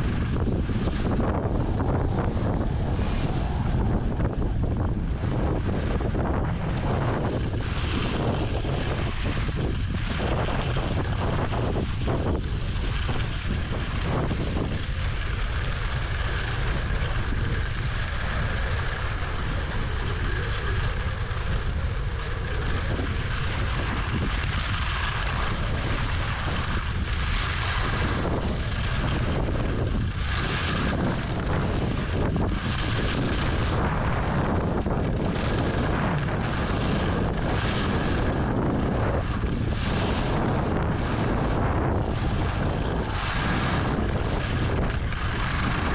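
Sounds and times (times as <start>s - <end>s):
skis scraping icy snow: 0.0s - 45.9s
wind rushing over microphone: 0.0s - 45.9s.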